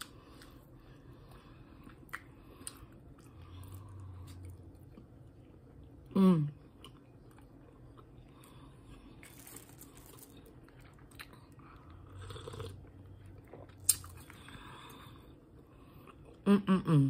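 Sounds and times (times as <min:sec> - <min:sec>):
person chewing food: 0:00.0 - 0:16.4.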